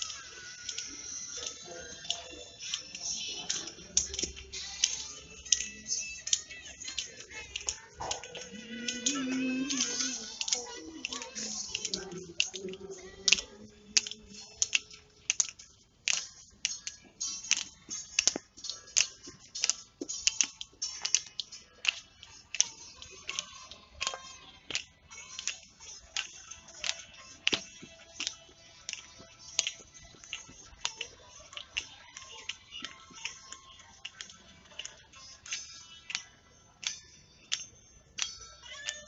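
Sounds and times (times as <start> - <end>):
hand claps steady beat: 0.0 - 39.0.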